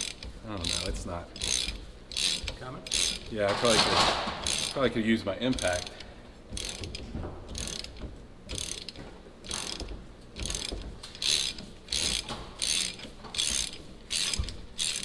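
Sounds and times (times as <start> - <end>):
ratchet wrench clicking: 0.0 - 15.0.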